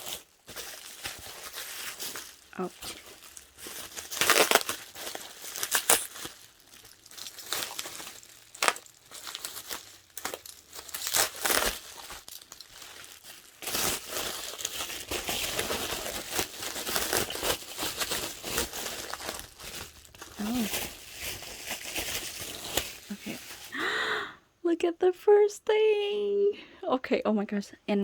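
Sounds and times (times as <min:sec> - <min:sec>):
wrapping crinkling and rustling: 0:00.0 - 0:23.8.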